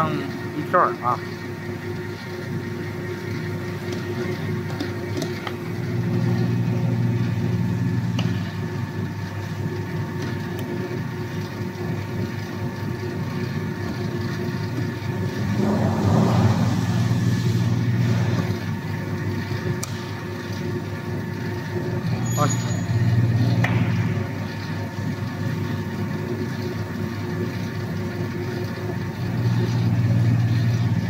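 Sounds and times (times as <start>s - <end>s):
dough sheeting machine humming: 0.0s - 31.0s.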